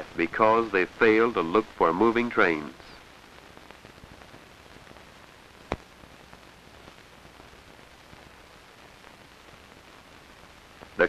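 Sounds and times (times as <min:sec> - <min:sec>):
film soundtrack hiss and crackle: 0:00.0 - 0:11.0.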